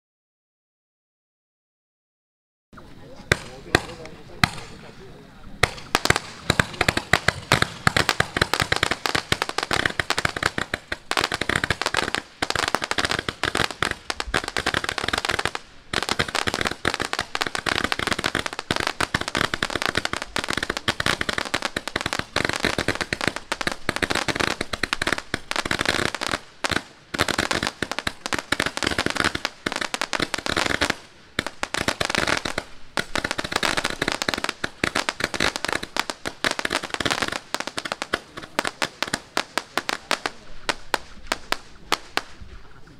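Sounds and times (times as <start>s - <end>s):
roman candle firework shots: 3.0s - 42.8s.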